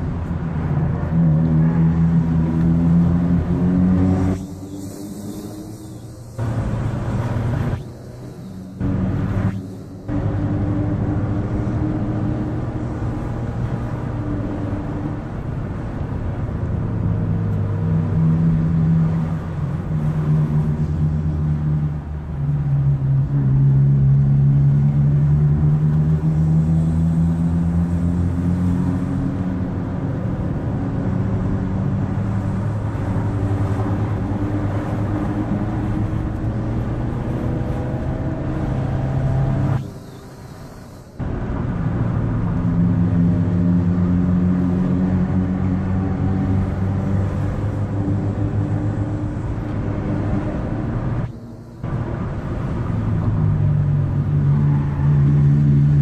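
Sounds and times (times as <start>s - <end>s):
car engine revving uphill: 0.0s - 56.0s.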